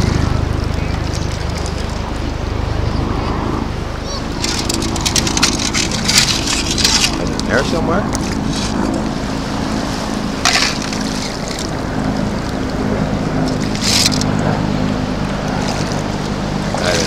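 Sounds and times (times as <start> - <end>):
seawater sloshing around legs: 0.0 - 17.0
steady low hum: 0.0 - 17.0.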